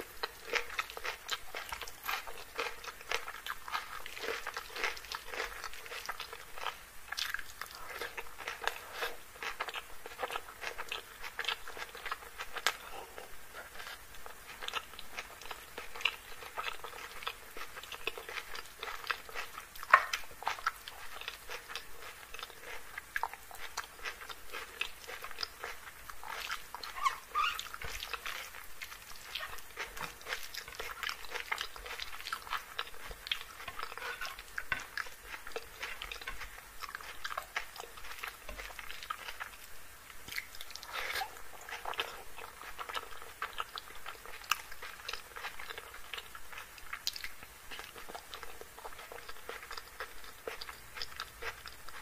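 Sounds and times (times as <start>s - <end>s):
chewing with wet clicks and smacks: 0.0s - 52.0s.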